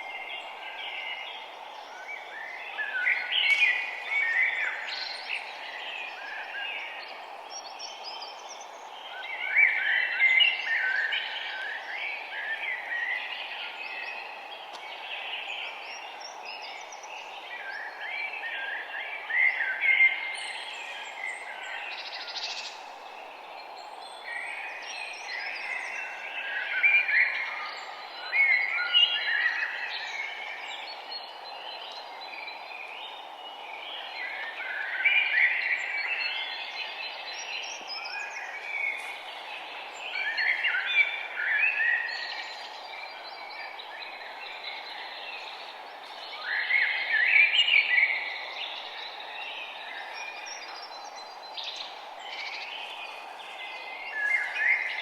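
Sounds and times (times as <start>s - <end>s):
songbirds warbling: 0.0s - 55.0s
steady outdoor hiss: 0.0s - 55.0s.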